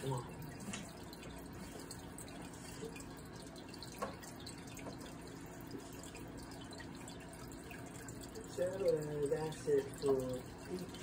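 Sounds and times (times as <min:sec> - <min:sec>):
faint hum and hiss: 0:00.0 - 0:11.0.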